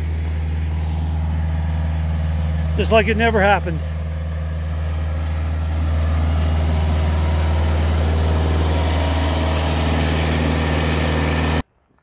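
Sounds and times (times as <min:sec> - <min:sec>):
tractor diesel engine running: 0:00.0 - 0:11.7.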